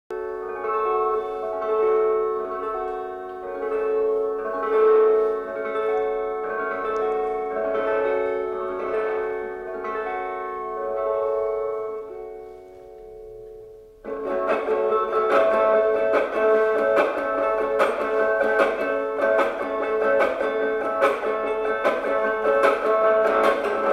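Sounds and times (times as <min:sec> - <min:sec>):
guitar strumming: 0:00.1 - 0:23.9.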